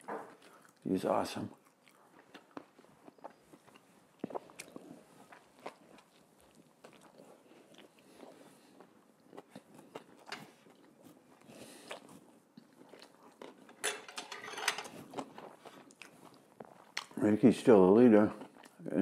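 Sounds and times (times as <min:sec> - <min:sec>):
close chewing with wet mouth clicks: 0:00.0 - 0:00.9, 0:01.5 - 0:13.8, 0:14.9 - 0:17.2, 0:18.3 - 0:19.0.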